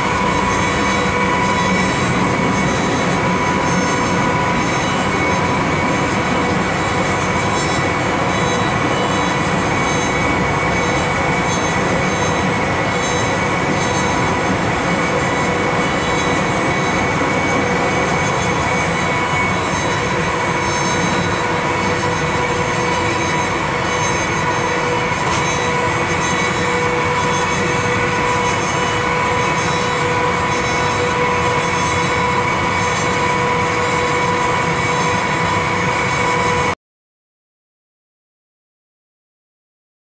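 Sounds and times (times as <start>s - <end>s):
train wheels rolling on rails: 0.0s - 36.7s
steady high whine: 0.0s - 36.8s.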